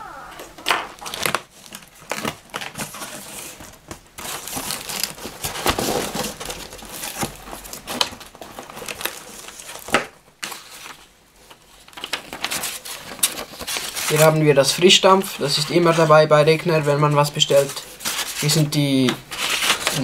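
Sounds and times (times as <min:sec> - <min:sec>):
packing paper rustling: 0:00.0 - 0:14.4, 0:17.4 - 0:20.0.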